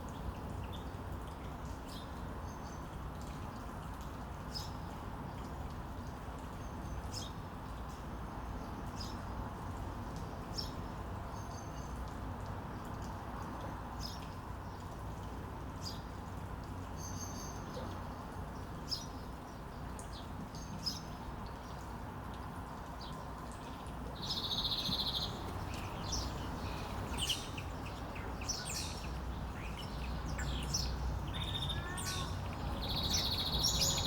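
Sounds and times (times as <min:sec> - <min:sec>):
songbirds chirping: 0:00.0 - 0:34.0
steady low background hiss: 0:00.0 - 0:34.0.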